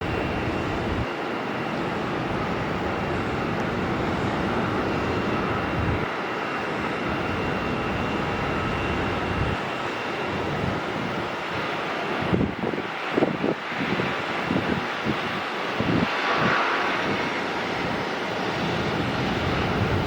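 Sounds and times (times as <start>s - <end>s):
jet engine rushing: 0.0s - 20.0s.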